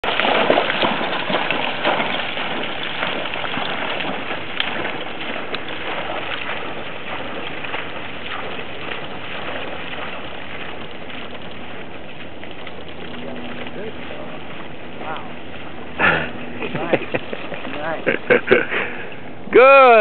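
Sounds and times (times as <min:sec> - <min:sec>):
dog splashing through water: 0:00.0 - 0:19.0.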